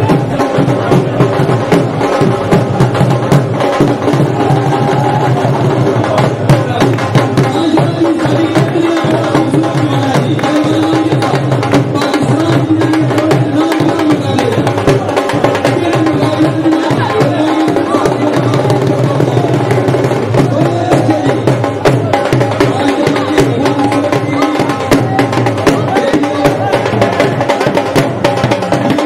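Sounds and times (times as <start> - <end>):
drum beaten with sticks: 0.0 - 29.0.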